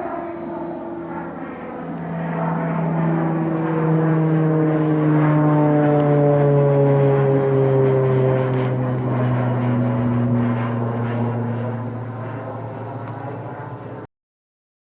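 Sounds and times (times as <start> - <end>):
turboprop plane droning: 0.0 - 14.1.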